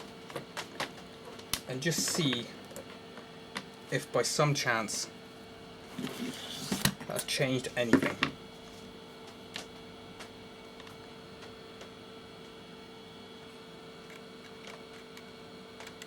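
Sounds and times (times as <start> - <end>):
projector electrical hum: 0.0 - 16.0.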